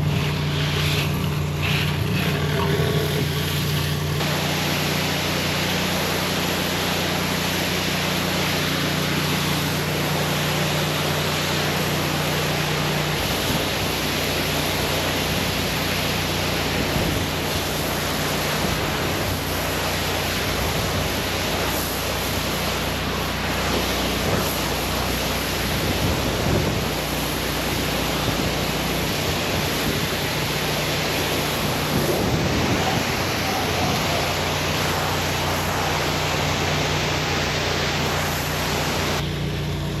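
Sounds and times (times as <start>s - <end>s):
high-pressure water spray hiss: 0.0s - 40.0s
pressure washer engine hum: 0.0s - 40.0s.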